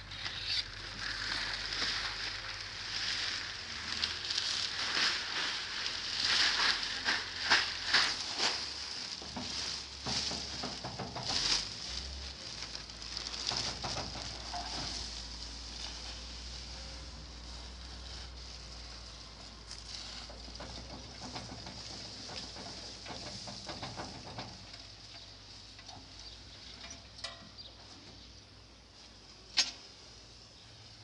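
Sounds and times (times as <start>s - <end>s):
bulk cargo sliding and spilling: 0.0s - 25.1s
plastic sheeting crackling: 0.0s - 26.9s.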